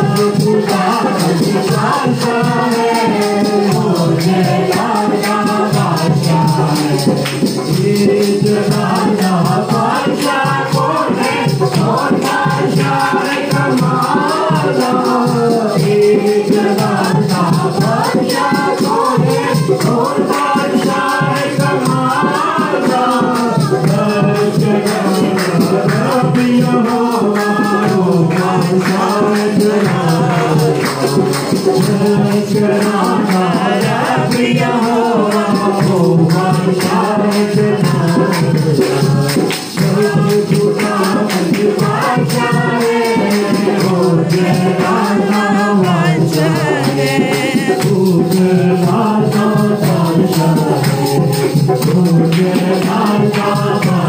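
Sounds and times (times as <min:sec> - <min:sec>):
backing track with bass and percussion: 0:00.0 - 0:54.0
person singing worship song: 0:00.0 - 0:54.0.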